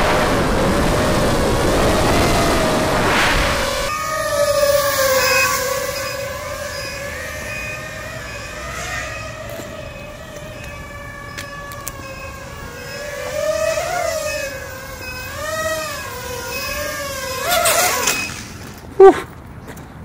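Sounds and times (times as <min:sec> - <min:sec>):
quadcopter propellers whining: 0:00.0 - 0:18.8.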